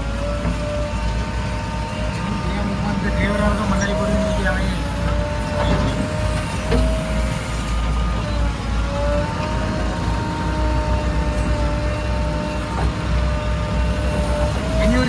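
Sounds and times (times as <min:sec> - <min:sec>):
diesel machinery engine rumbling: 0:00.0 - 0:15.0.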